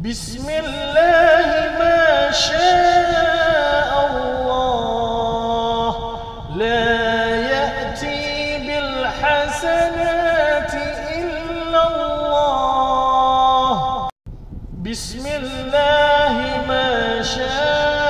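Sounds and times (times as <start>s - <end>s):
man chanting: 0.0s - 14.1s, 14.8s - 18.0s.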